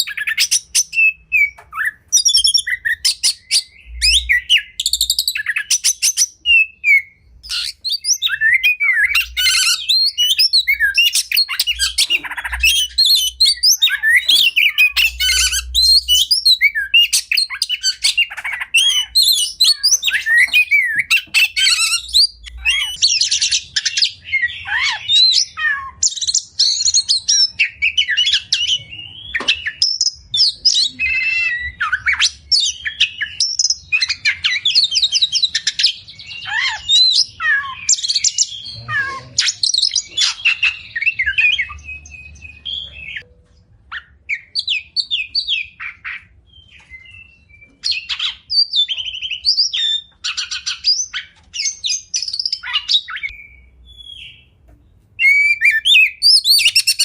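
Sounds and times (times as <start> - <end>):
bird singing whistles and trills: 0.0 - 43.3, 43.9 - 54.6, 55.2 - 57.0.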